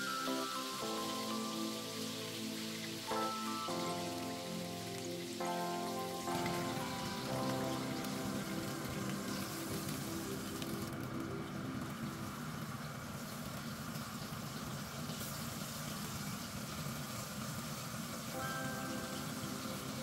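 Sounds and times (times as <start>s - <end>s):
kebabs sizzling in oil: 0.0s - 20.0s.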